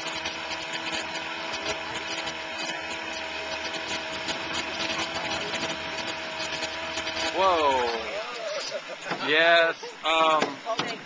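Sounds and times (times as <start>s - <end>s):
motorboat engine whining hum: 0.0s - 11.0s.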